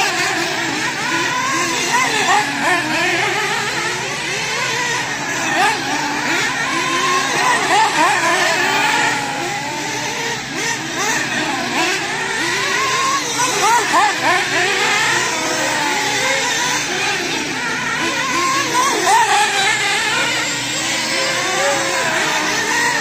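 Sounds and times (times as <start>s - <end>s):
radio-controlled car motors whining: 0.0s - 23.0s.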